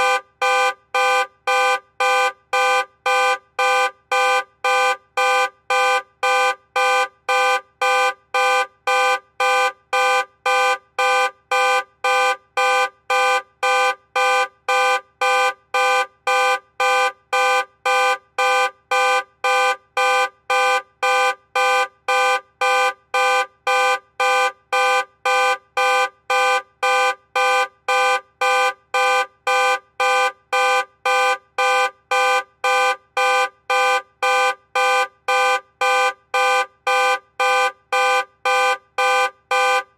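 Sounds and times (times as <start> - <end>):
car alarm horn blasts: 0.0 - 39.9.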